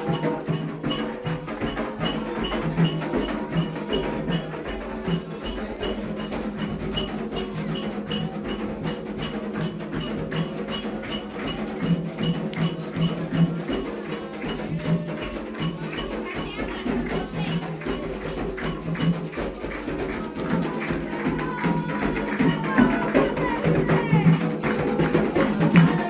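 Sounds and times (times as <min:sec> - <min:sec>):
hand drums playing: 0:00.0 - 0:26.0.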